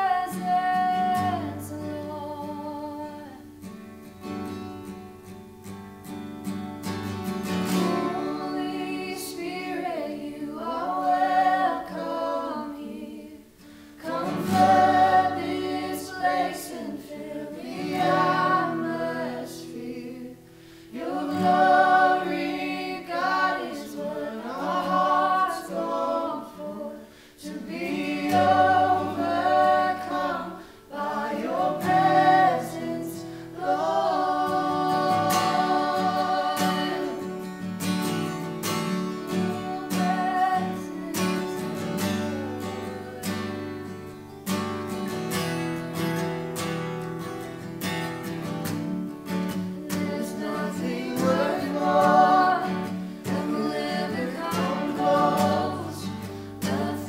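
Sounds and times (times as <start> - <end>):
voices singing together: 0.0 - 3.6, 7.4 - 44.1, 49.5 - 57.0
strummed acoustic guitar: 0.0 - 9.6, 13.6 - 57.0.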